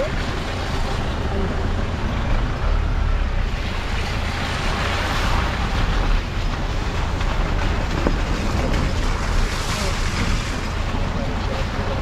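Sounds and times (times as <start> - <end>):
vehicle engine and tyres rumbling: 0.0 - 12.0
wind buffeting microphone: 0.0 - 12.0.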